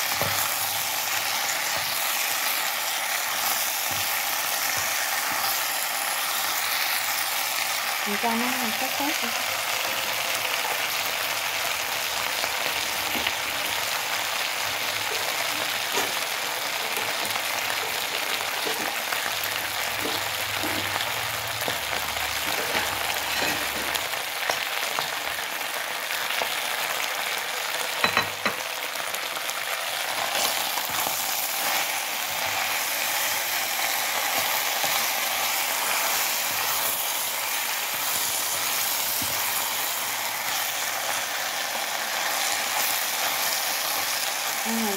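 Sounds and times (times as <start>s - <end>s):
food sizzling in pan: 0.0s - 44.9s.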